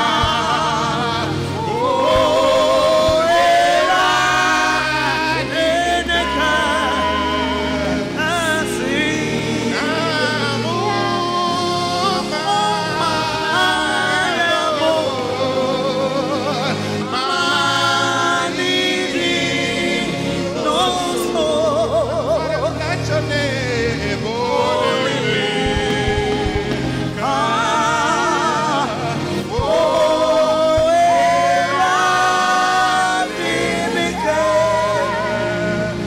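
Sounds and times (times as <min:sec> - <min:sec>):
backing voices singing: 0:00.0 - 0:36.0
man singing lead: 0:00.0 - 0:36.0
sustained musical accompaniment: 0:00.0 - 0:36.0.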